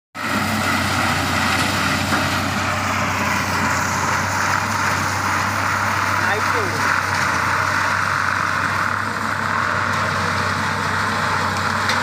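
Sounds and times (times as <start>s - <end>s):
harvester machine running: 0.2s - 12.0s.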